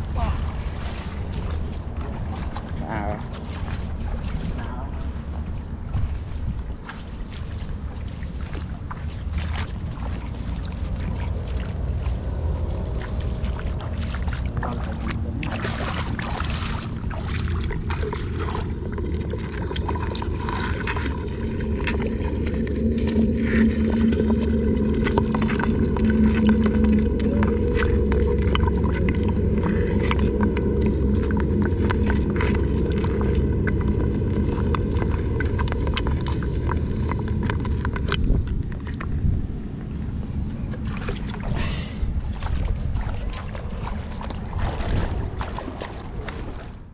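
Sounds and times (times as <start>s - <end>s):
water sloshing and gurgling: 0.0s - 46.9s.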